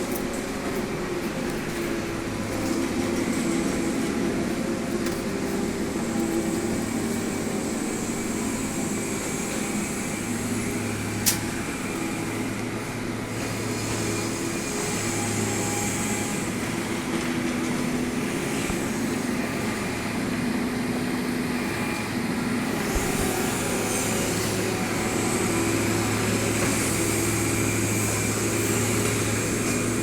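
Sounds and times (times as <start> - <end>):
heavy machine engine humming: 0.0 - 30.0.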